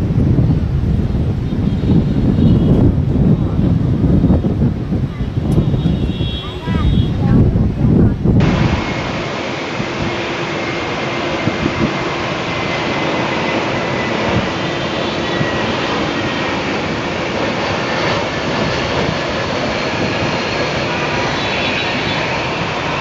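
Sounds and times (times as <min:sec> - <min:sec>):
jet airliner engines: 0:00.0 - 0:23.0.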